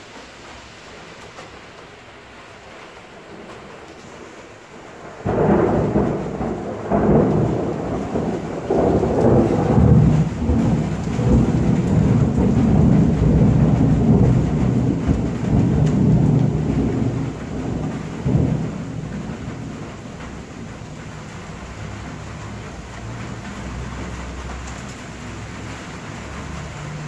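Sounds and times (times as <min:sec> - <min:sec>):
rolling thunder rumble: 0:03.0 - 0:27.0
thunder clap: 0:04.8 - 0:27.0.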